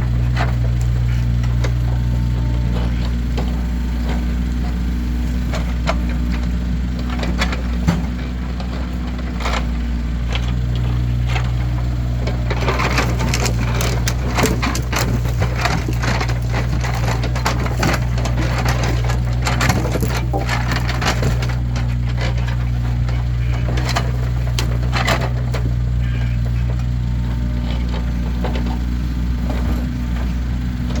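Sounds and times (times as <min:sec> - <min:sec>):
low engine hum: 0:00.0 - 0:31.0
firewood logs knocking together: 0:00.1 - 0:31.0.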